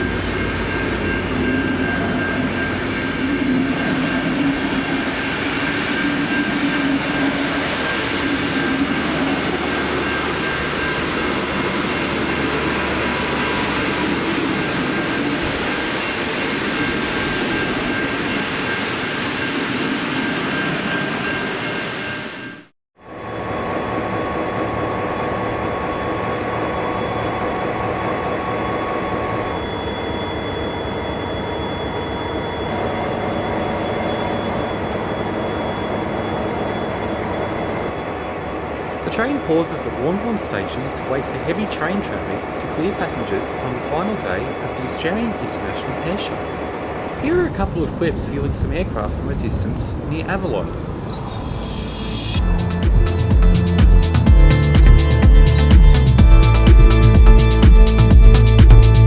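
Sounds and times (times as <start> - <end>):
diesel train passing: 0.0 - 59.0.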